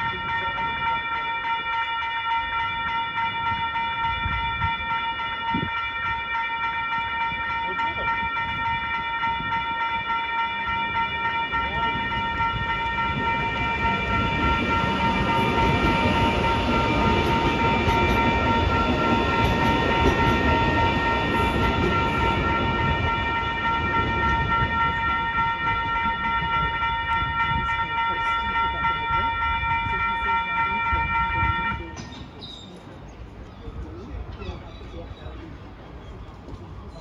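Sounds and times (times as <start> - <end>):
crossing warning bell: 0.0 - 37.0
train wheels rumbling on rails: 0.0 - 37.0.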